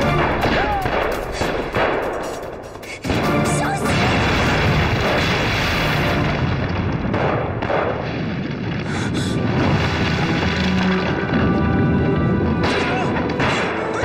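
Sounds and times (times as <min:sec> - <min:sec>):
film score music: 0:00.0 - 0:08.0, 0:09.3 - 0:14.0
explosions and booms: 0:00.0 - 0:14.0.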